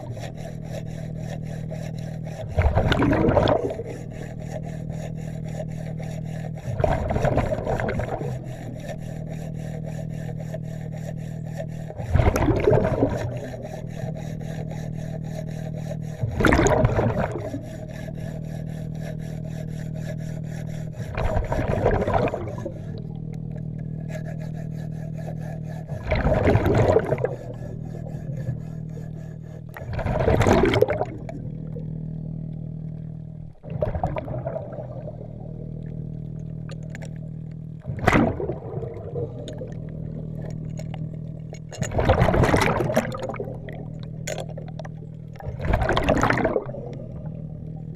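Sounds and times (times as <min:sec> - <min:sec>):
regulator bubbles rushing underwater: 0:00.0 - 0:47.9
steady low hum: 0:00.0 - 0:47.9.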